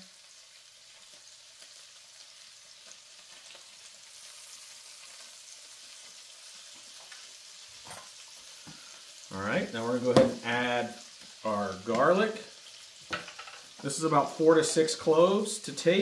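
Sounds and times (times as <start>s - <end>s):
shallots sizzling in oil: 0.0s - 16.0s
small crackles of frying: 0.0s - 16.0s.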